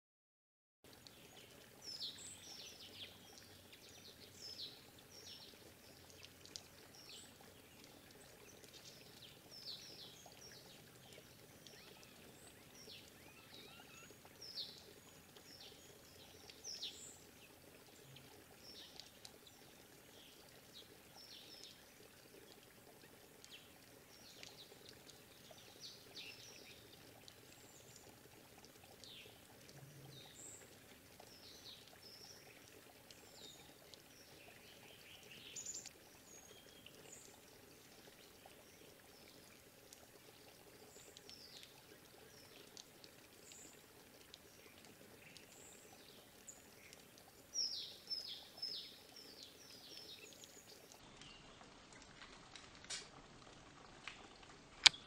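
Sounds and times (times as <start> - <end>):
small birds chirping: 0.9 - 51.9, 54.8 - 55.0.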